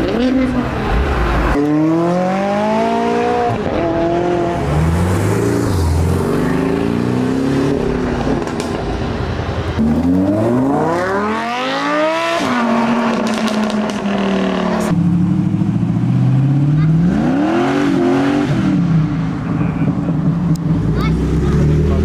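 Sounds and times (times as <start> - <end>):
sports cars accelerating: 0.0 - 8.8, 9.7 - 22.0.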